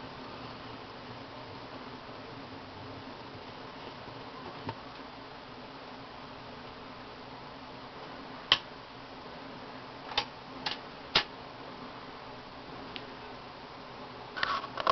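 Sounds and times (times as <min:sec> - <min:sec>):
low hiss and hum: 0:00.0 - 0:14.9.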